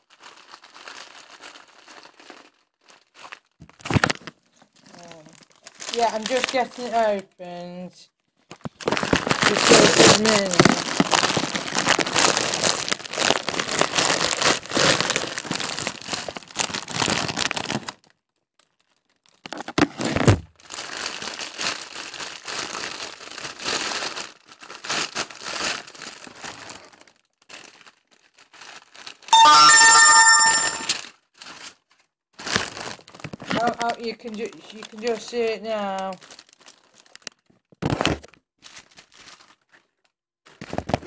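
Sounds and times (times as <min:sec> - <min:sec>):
packaging crinkling and tearing: 0:00.0 - 0:07.1, 0:08.5 - 0:30.6, 0:31.4 - 0:41.0.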